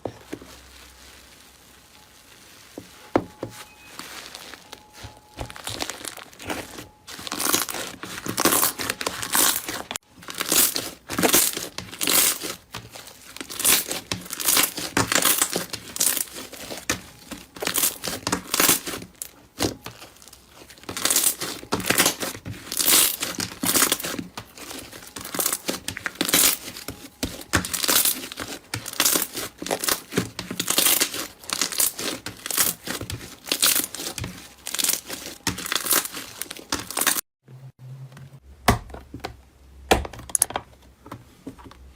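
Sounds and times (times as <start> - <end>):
slime squishing and crackling: 0.0 - 37.2.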